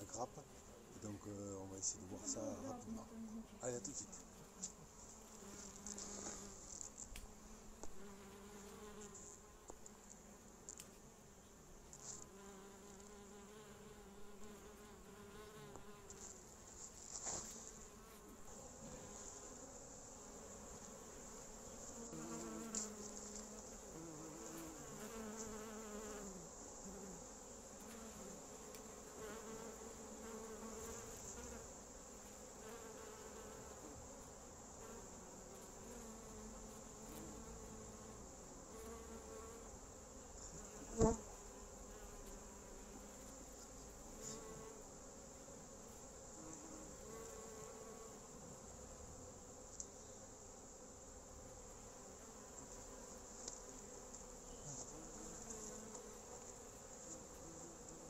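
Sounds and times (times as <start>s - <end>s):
bees buzzing: 0.0s - 10.6s, 11.2s - 58.0s.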